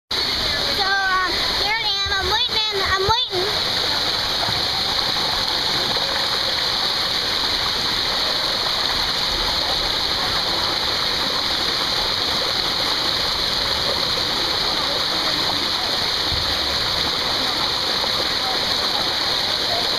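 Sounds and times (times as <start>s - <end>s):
water rushing through slide tube: 0.2s - 19.9s.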